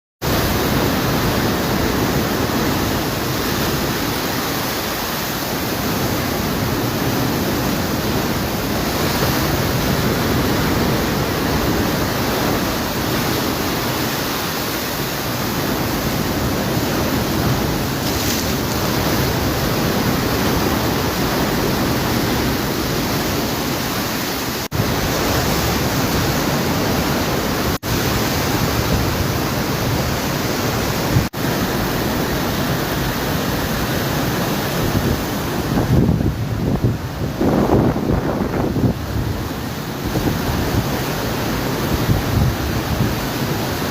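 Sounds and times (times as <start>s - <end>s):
floodwater rushing: 0.2s - 43.9s.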